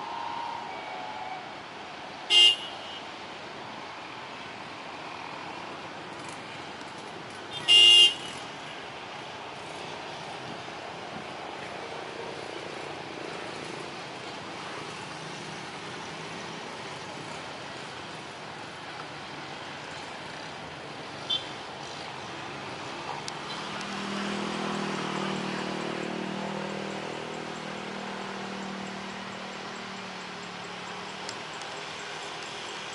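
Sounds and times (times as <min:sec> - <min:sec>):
road vehicle engine hum: 0:00.0 - 0:32.9.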